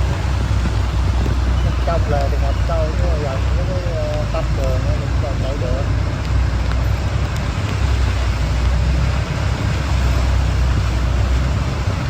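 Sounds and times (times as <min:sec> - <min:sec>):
heavy rain hiss: 0:00.0 - 0:12.0
road traffic rumble: 0:00.0 - 0:12.0.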